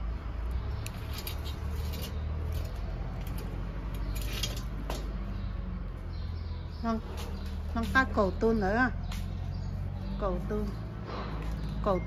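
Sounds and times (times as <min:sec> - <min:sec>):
low hum of store background: 0:00.0 - 0:12.0.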